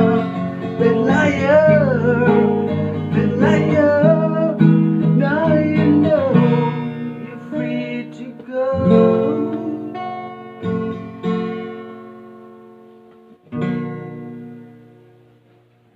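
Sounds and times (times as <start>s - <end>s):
acoustic guitar chords: 0.0s - 15.9s.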